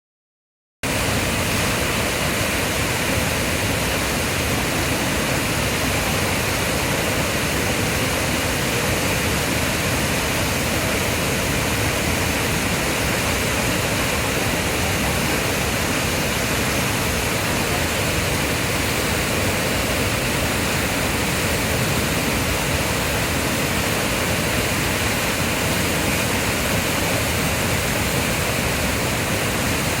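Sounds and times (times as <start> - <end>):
waterfall roaring: 0.8 - 30.0.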